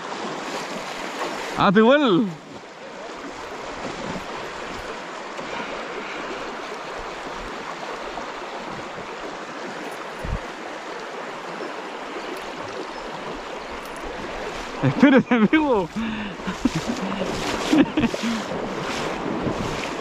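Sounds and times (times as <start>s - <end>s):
river rushing over stones: 0.0s - 20.0s.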